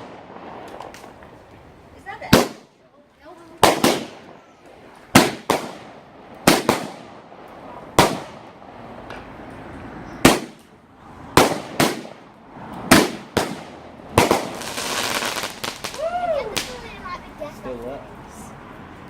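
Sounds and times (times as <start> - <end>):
fireworks bangs echoing: 0.0 - 9.5, 10.2 - 17.2.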